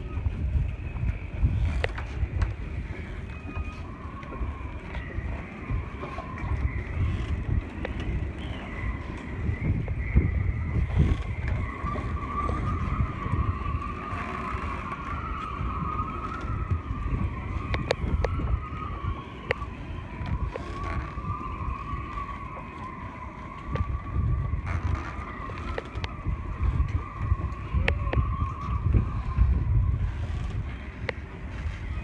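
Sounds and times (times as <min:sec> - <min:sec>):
steady wavering whine: 0:00.0 - 0:32.0
wind buffeting microphone: 0:00.0 - 0:32.0.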